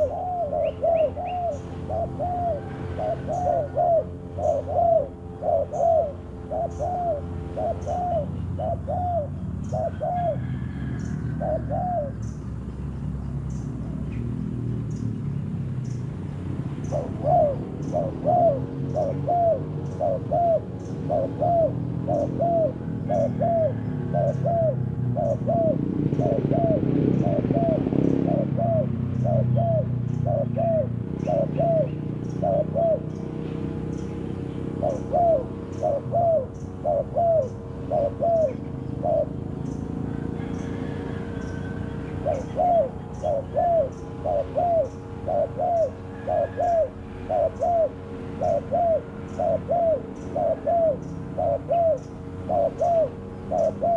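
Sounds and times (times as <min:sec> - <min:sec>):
dove cooing: 0:00.0 - 0:12.7, 0:16.6 - 0:53.9.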